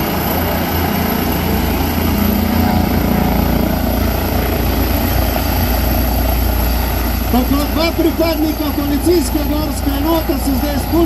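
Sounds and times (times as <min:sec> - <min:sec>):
helicopter hovering: 0:00.0 - 0:11.0.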